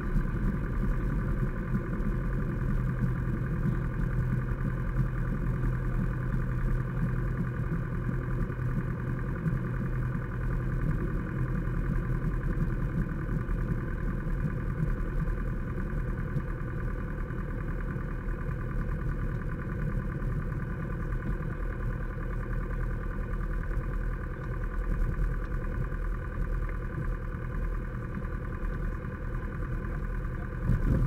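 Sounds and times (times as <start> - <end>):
airplane engine idling: 0.0 - 31.0.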